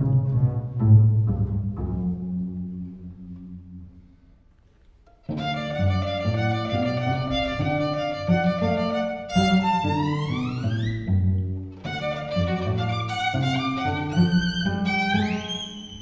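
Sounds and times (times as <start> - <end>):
string orchestra playing: 0.0 - 4.2, 5.1 - 16.0.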